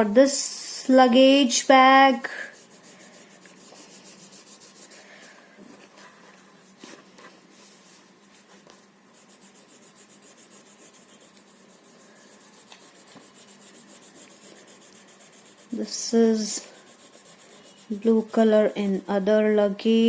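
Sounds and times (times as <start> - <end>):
colouring rubbing on paper: 1.8 - 20.0.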